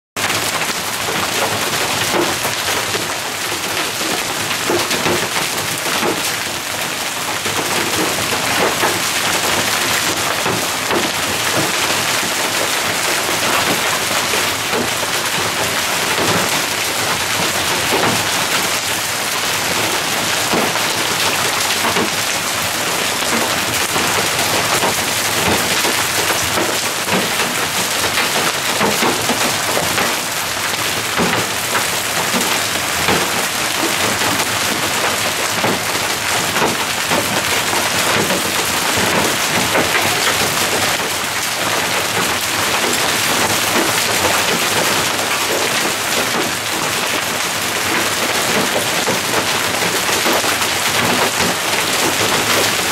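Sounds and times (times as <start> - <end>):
heavy hail pelting pavement and cars: 0.2 - 52.9.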